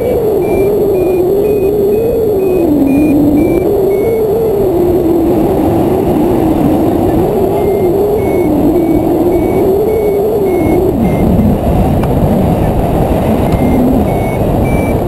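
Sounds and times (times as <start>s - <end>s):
short high variometer beeps: 0.0s - 5.7s, 7.0s - 11.7s, 13.2s - 15.0s
air rushing with wavering tone: 0.0s - 15.0s.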